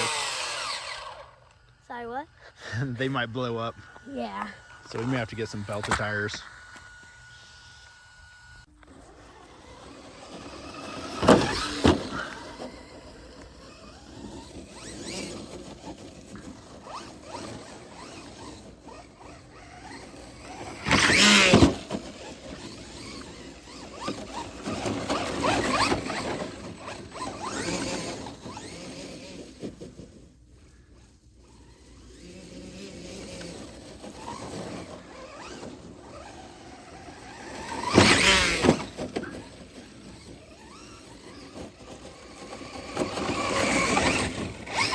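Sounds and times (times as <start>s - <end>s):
electric motor whining: 0.0s - 44.9s.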